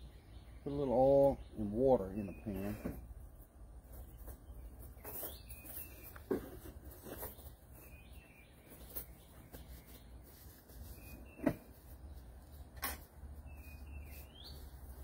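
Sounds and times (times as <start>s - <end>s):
small bird chirping: 0.0s - 3.1s, 3.8s - 15.0s.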